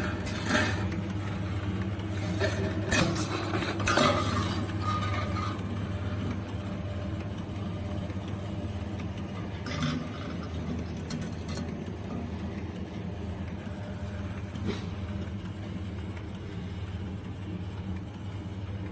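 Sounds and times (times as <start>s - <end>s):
machine motor hum: 0.0s - 18.9s.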